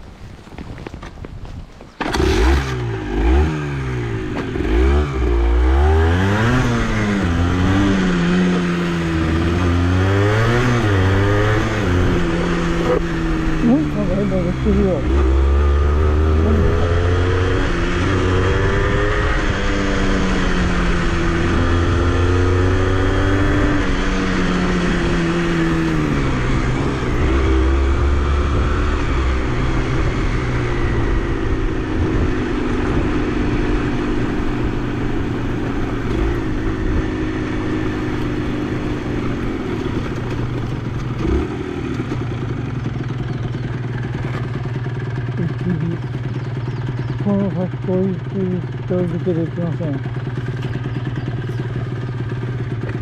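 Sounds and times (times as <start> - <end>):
motorcycle engine revving: 2.0 - 53.0.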